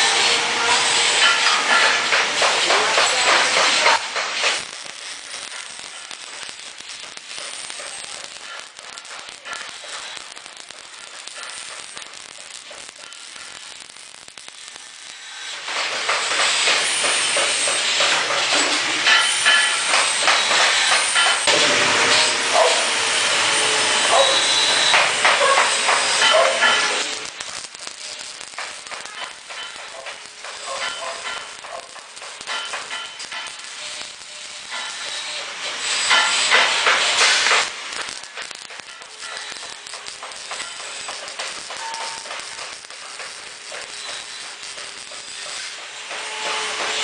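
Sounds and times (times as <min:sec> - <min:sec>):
welding hiss and crackle: 0:00.0 - 0:47.0.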